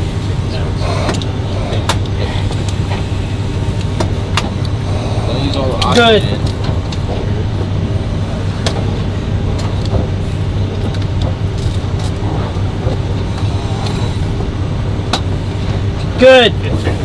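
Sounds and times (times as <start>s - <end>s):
aircraft cabin hum: 0.0s - 17.0s.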